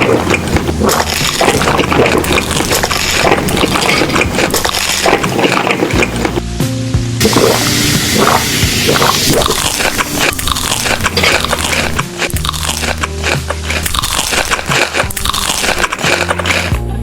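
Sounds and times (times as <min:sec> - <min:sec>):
chewing crunchy food: 0:00.0 - 0:06.4, 0:07.2 - 0:16.9
background music: 0:00.0 - 0:17.0.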